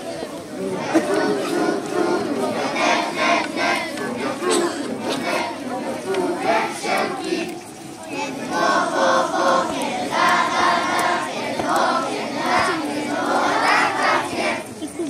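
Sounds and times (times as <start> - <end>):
children singing in unison: 0.0 - 14.8.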